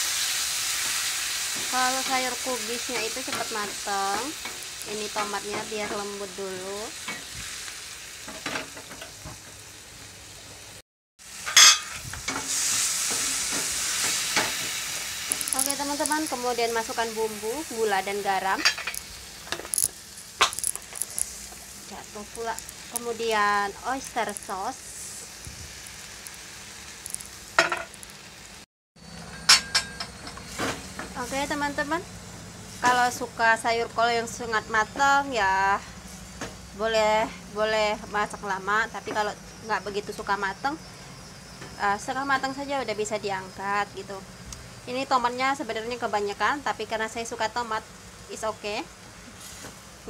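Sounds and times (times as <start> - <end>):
food sizzling in oil: 0.0 - 50.0.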